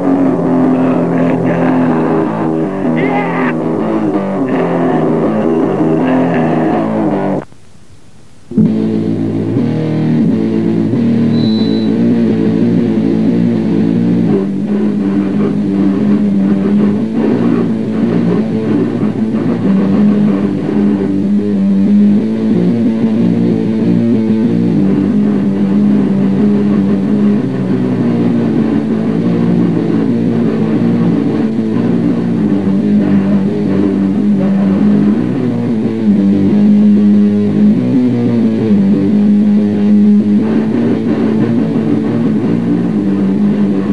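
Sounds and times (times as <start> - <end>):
heavy rock music: 0.0 - 7.4, 8.5 - 43.9.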